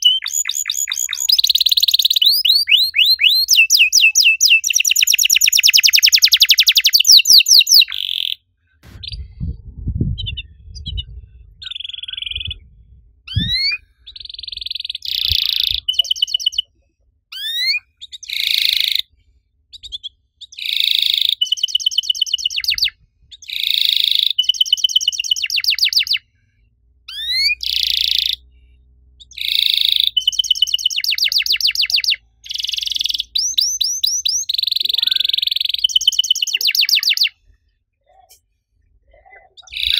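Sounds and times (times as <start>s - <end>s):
canary singing trills: 0.0s - 8.4s, 10.2s - 12.7s, 13.3s - 19.1s, 19.7s - 26.2s, 27.1s - 28.5s, 29.2s - 37.4s, 39.1s - 39.9s.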